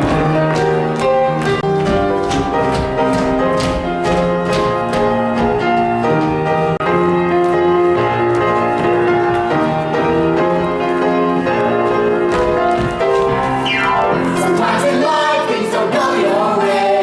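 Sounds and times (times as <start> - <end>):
piano instrumental music: 0.0 - 17.0.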